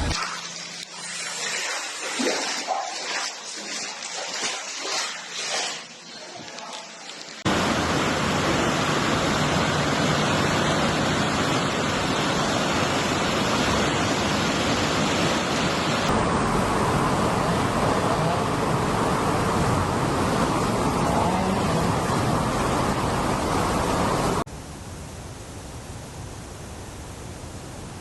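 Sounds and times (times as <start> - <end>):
rushing floodwater: 0.0 - 24.5.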